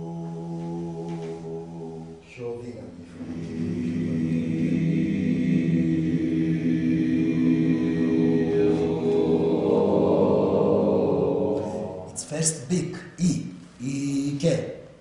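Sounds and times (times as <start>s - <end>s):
voices chanting low tone in unison: 0.0s - 14.4s.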